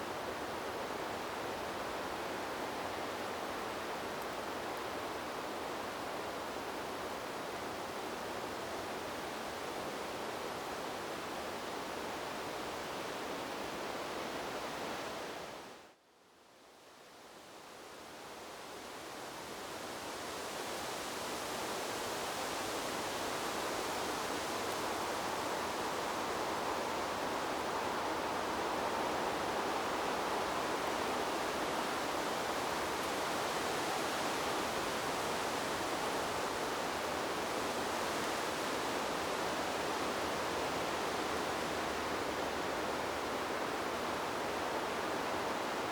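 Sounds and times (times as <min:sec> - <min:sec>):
wind through trees: 0:00.0 - 0:45.9.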